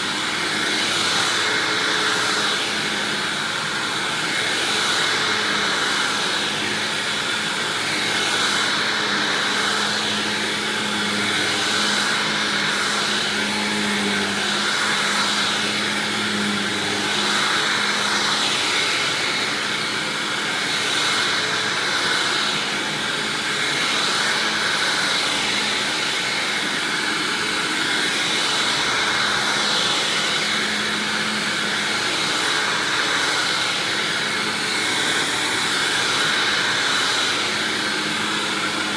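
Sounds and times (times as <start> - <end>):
upright vacuum whooshing whine: 0.0 - 38.9.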